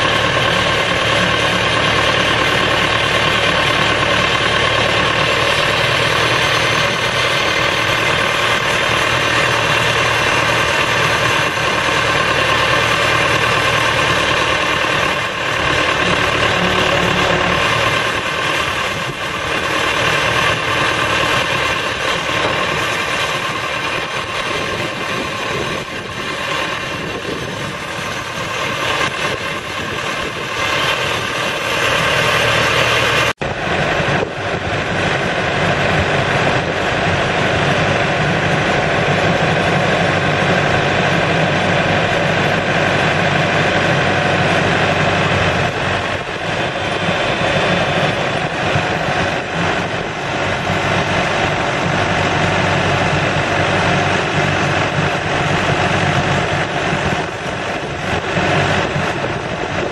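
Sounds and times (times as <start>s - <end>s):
backhoe diesel engine running: 0.0s - 59.9s.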